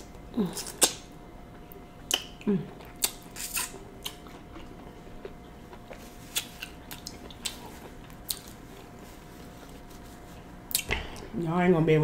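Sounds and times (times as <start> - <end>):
chewing soft food: 0.0 - 11.3.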